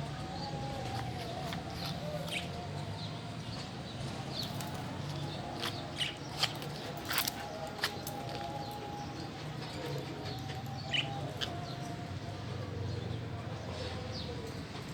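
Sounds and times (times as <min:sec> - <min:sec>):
lovebirds chirping: 0:00.0 - 0:14.6.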